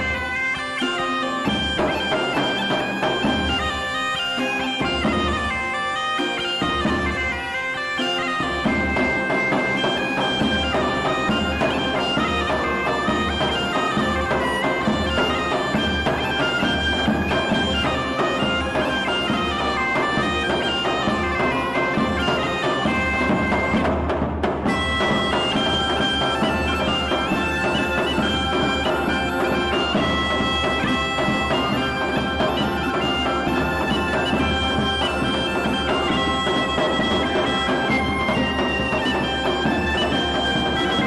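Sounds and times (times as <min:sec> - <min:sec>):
bagpipe tune over a drone: 0:00.0 - 0:23.8, 0:24.7 - 0:41.0.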